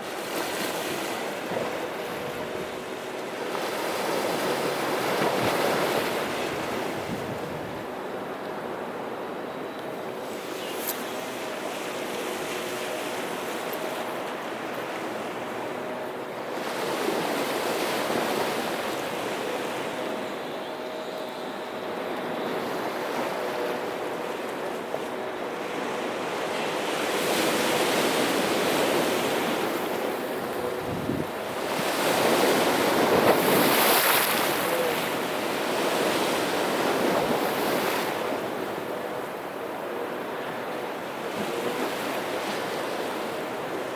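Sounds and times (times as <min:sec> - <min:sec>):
faint steady hum: 0:00.0 - 0:43.9
surf washing ashore: 0:00.0 - 0:43.9.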